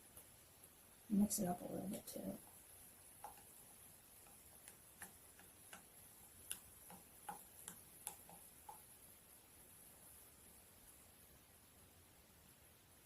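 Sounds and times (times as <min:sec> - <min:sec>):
mixture fizzing: 0:00.1 - 0:11.1.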